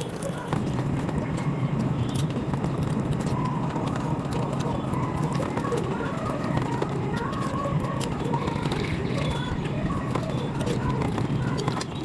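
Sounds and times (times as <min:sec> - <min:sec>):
sped-up chewing and mouth noises: 0:00.0 - 0:12.0.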